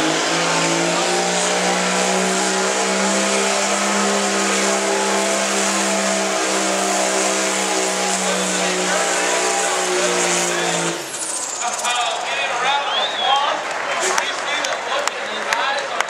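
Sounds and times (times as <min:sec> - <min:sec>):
diesel tractor at full throttle: 0:00.0 - 0:15.2.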